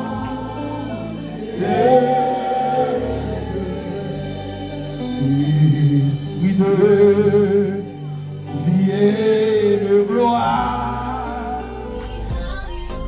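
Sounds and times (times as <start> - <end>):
man singing gospel: 0.0 - 12.2
sustained instrumental backing: 0.0 - 13.0.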